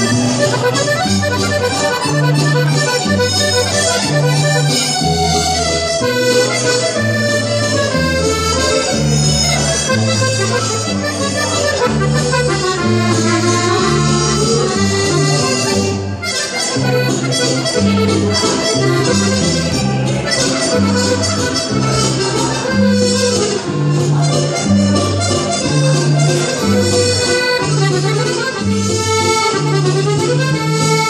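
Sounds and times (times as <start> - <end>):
accordion dance tune: 0.0 - 31.0.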